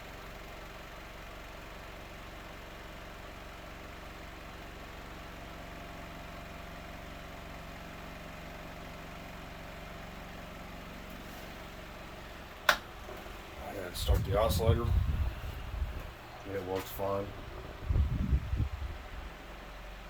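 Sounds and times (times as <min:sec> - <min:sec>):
table fan running: 0:00.0 - 0:20.0.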